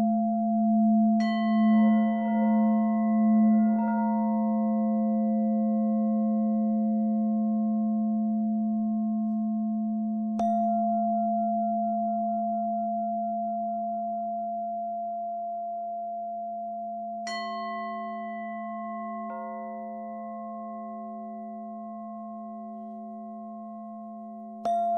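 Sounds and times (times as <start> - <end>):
singing bowls ringing: 0.0 - 24.9.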